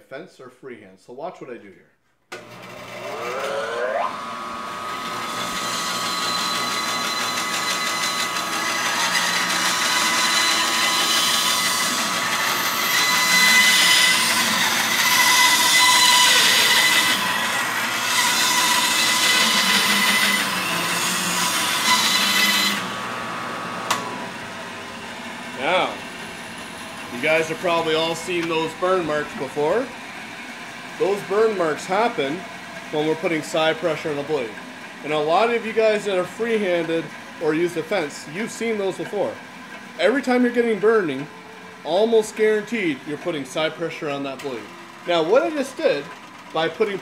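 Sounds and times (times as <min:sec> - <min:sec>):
bandsaw cutting wood: 0:02.3 - 0:47.0
bandsaw motor whining: 0:02.3 - 0:47.0.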